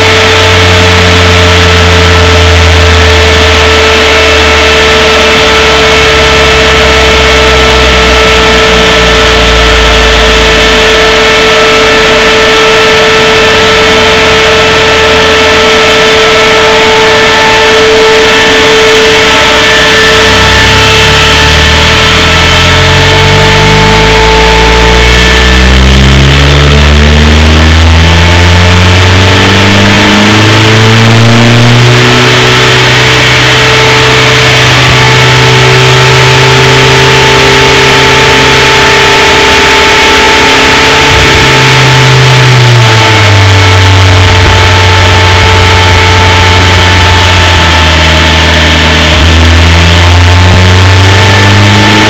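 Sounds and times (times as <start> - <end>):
car engine revving: 0.0 - 52.0
steady whine: 0.0 - 52.0.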